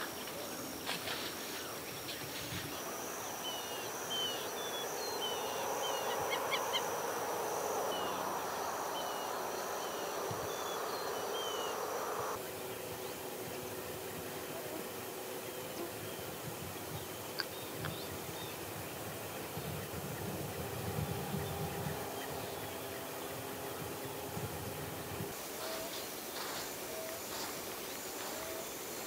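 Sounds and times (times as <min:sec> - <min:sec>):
high insect buzz: 0:00.0 - 0:29.0.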